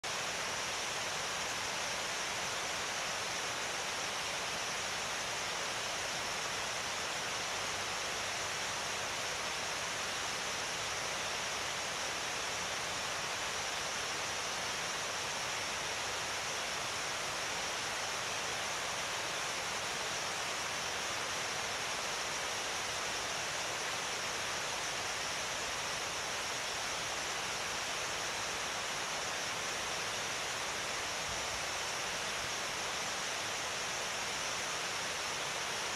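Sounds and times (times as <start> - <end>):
cooling towers water rushing: 0.1 - 35.9.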